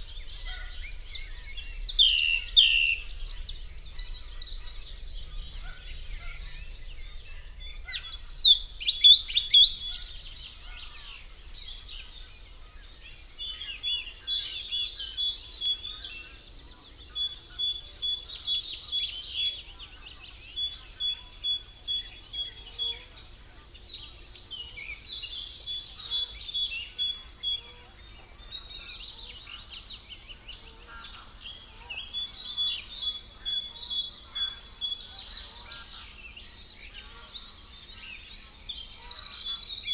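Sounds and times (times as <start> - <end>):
faint bird twittering: 0.0 - 39.9
songbirds singing: 0.0 - 39.9.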